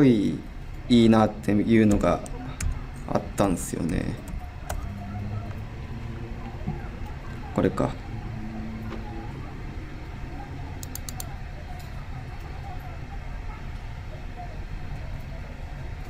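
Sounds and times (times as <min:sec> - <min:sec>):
low room hum and hiss: 0:00.0 - 0:16.0.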